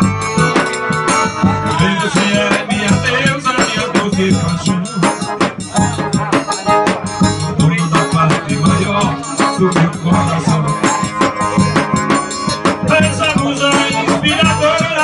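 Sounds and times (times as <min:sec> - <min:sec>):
drum: 0:00.0 - 0:15.0
piano accordion: 0:00.0 - 0:15.0
rattling percussion: 0:00.0 - 0:15.0
man singing through microphone: 0:01.4 - 0:15.0.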